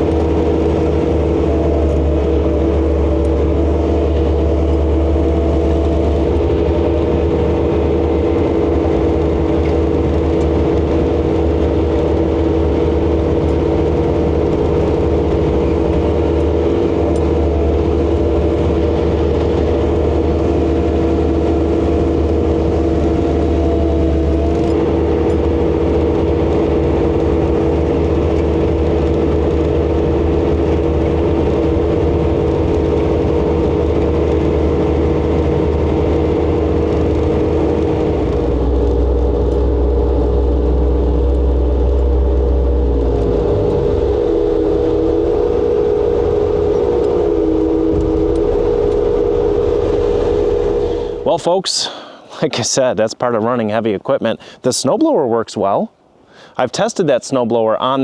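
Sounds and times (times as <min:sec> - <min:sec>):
diesel engine running steadily: 0:00.0 - 0:52.6, 0:53.5 - 0:55.2.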